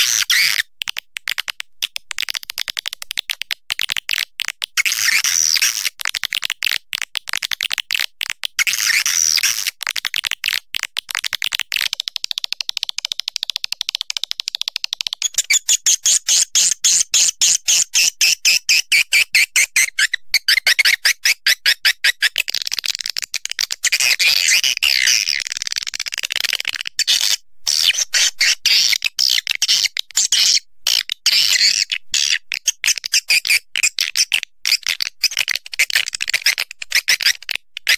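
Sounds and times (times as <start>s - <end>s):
bird dry clicks: 0.0s - 16.2s, 20.4s - 27.4s, 29.0s - 37.9s.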